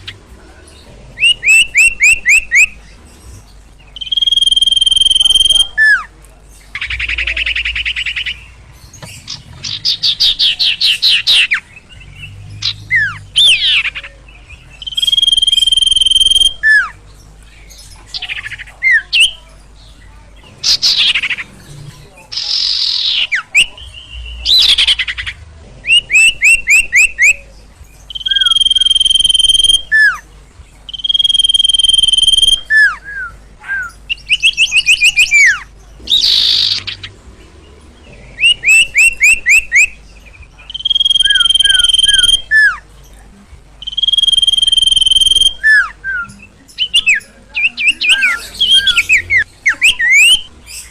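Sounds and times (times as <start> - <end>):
bird singing: 0.0 - 50.9.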